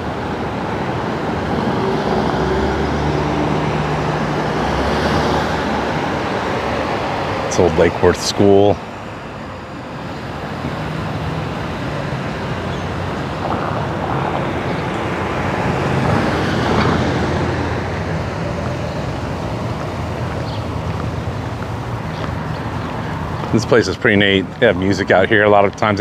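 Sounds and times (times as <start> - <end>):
pickup truck driving past: 0.0 - 25.2
street traffic: 0.0 - 26.0.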